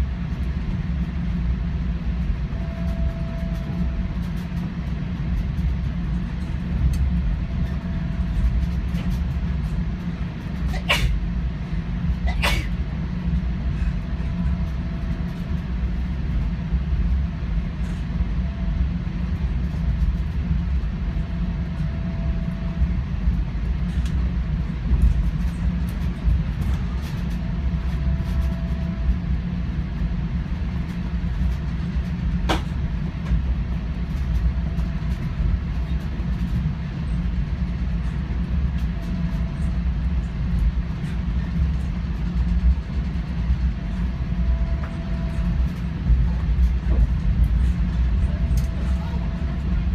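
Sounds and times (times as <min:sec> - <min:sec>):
faint hum: 0:00.0 - 0:49.9
train rumbling from inside: 0:00.0 - 0:49.9.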